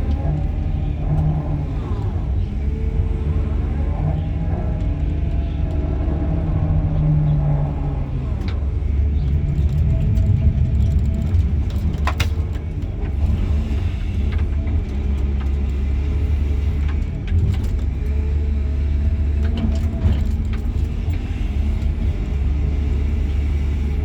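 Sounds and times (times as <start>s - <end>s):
excavator diesel engine drone: 0.0s - 24.0s.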